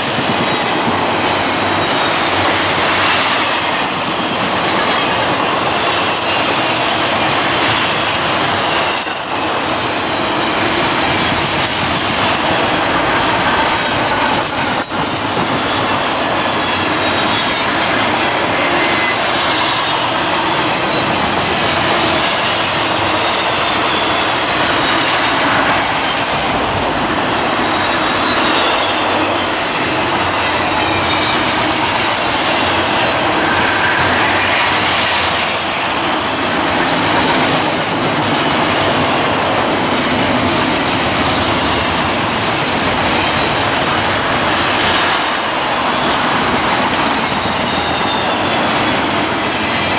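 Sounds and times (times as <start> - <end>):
train wheels rumbling on rail: 0.0 - 49.9
high wheel squeal: 5.8 - 37.8, 38.4 - 49.9.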